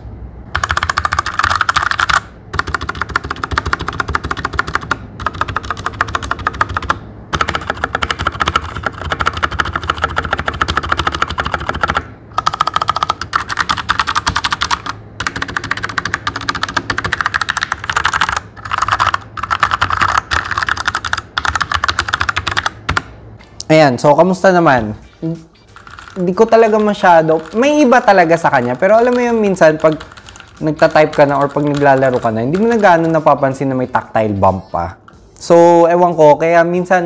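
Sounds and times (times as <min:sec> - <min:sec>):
mechanical keyboard typing: 0:00.5 - 0:23.1, 0:25.6 - 0:34.1.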